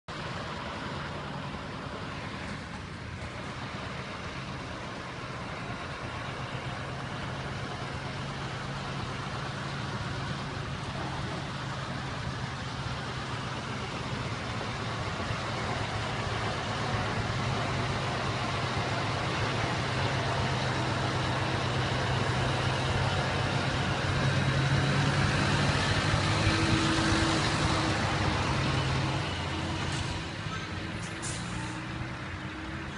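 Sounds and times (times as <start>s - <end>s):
road noise: 0.0s - 32.9s
truck engine running: 0.1s - 32.9s.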